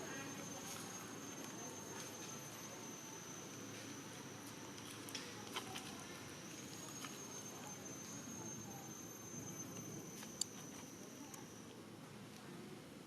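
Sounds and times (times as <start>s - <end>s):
high-pitched insect drone: 0.0s - 11.7s
low background noise: 0.0s - 13.0s.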